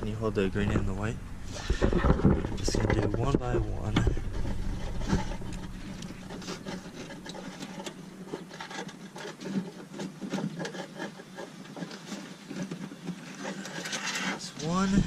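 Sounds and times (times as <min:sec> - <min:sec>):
wires rubbing and scraping: 0:00.0 - 0:15.0.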